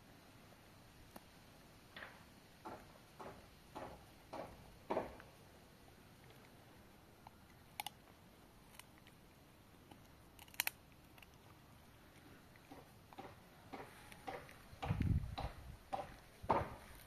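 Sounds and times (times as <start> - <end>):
dog gnawing wooden stick: 2.6 - 17.0.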